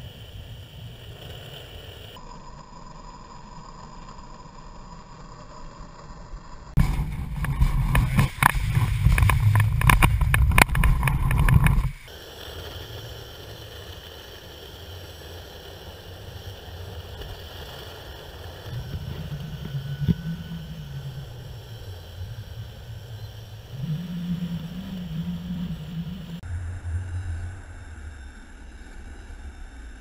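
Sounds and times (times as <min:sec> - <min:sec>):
faint high motor whine: 0:00.0 - 0:30.0
longboard wheels rolling: 0:00.0 - 0:30.0.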